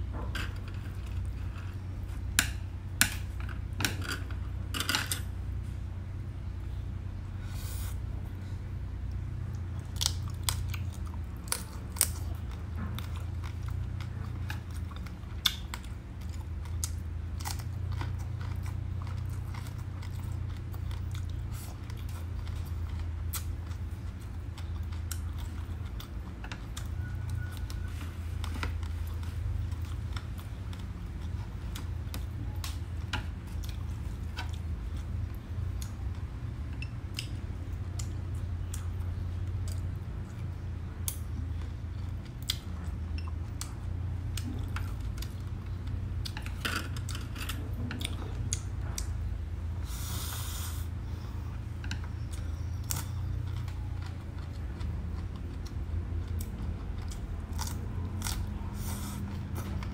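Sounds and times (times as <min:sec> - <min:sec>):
crunchy chewing: 0:07.5 - 0:59.9.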